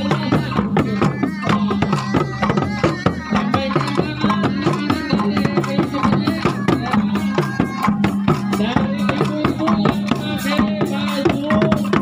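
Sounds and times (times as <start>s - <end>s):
hand drums beating fast rhythm: 0.0s - 12.0s.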